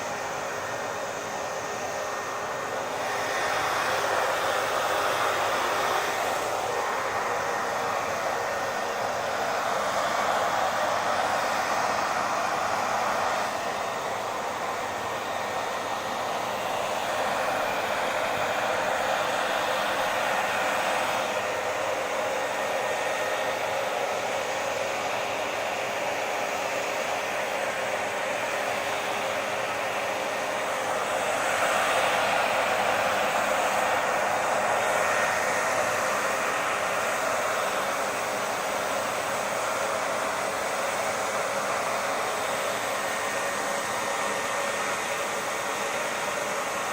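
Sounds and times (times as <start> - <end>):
hair dryer running: 0.0 - 46.9.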